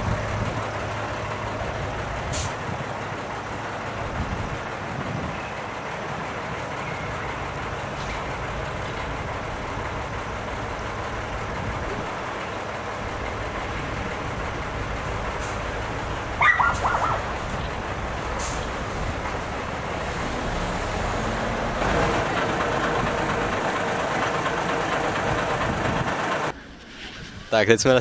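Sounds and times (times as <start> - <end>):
bus engine idling: 0.0 - 26.6.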